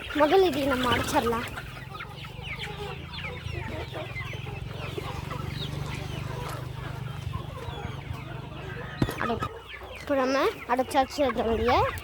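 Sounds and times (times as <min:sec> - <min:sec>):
chickens clucking and cheeping: 0:00.0 - 0:12.0.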